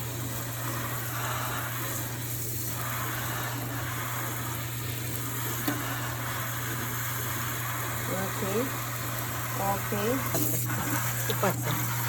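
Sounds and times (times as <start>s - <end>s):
water running from tap into sink: 0.0s - 12.0s.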